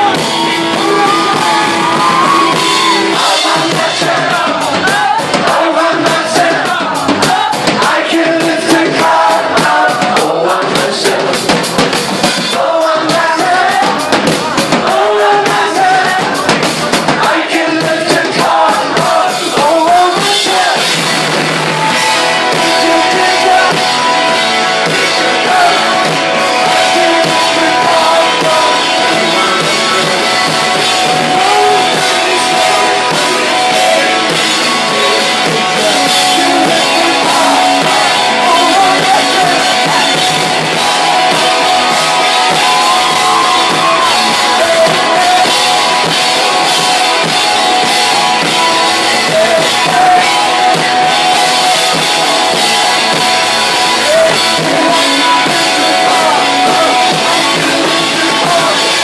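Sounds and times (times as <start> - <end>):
lead singer vocal: 0.0 - 59.0
live rock band playing: 0.0 - 59.0.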